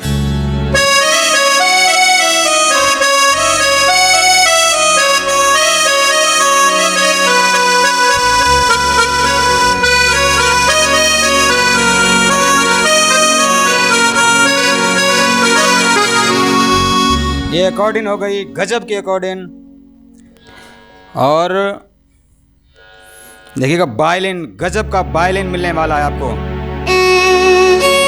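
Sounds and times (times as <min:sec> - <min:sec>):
bass line: 0:00.0 - 0:20.3, 0:24.6 - 0:28.0
accordion melody over chords: 0:00.0 - 0:23.8, 0:24.6 - 0:28.0.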